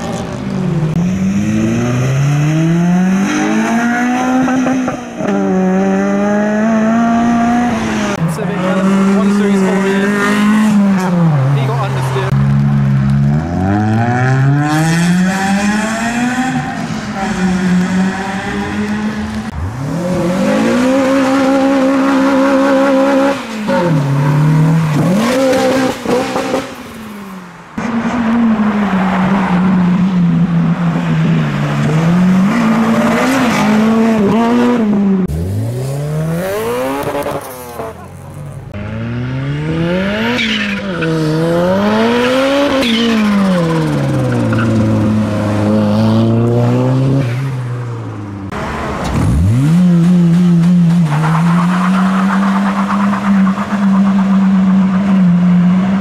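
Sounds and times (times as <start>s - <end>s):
car engines revving and accelerating: 0.0s - 56.0s.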